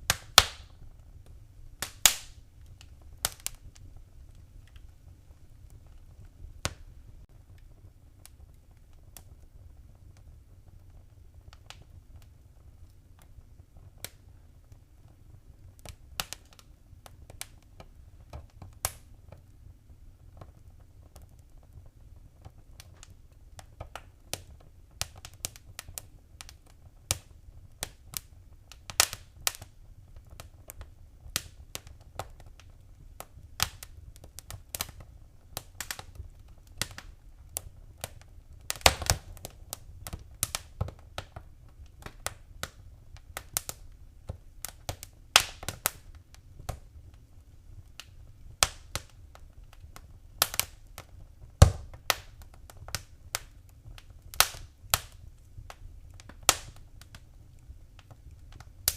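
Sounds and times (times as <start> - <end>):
fireplace fire crackling: 0.0 - 58.9.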